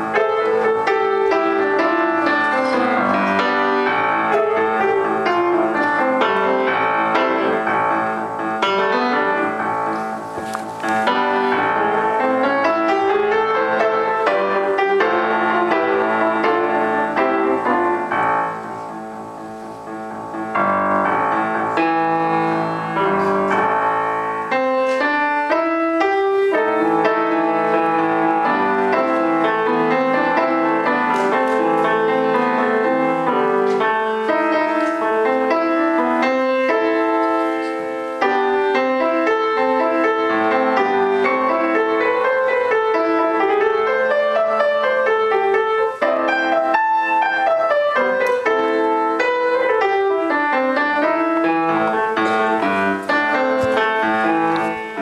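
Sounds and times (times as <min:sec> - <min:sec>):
piano piece: 0:00.0 - 0:55.0.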